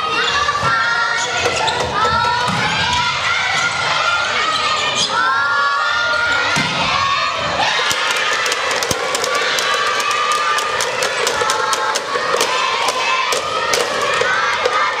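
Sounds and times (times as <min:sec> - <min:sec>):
girls shouting and cheering: 0:00.0 - 0:15.0.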